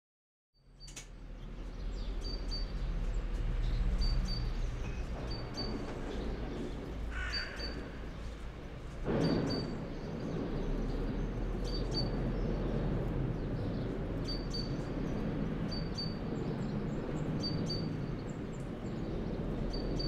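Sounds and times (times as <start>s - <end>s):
steady low rumble: 1.2s - 20.0s.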